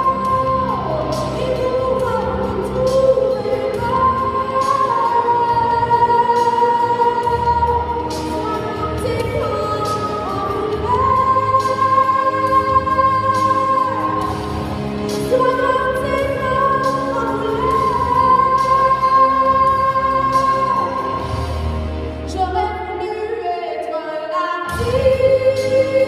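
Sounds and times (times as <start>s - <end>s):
backing music: 0.0s - 26.0s.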